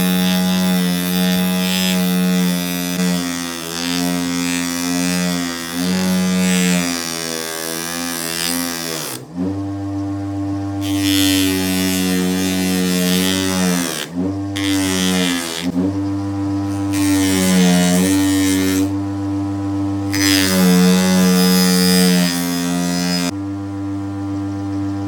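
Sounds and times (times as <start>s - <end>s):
power tool motor whining: 0.0s - 23.4s.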